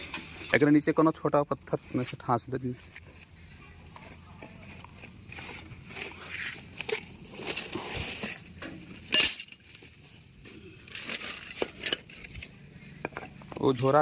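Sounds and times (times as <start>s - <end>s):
metal tools clinking on wheel hub: 0.0s - 14.0s.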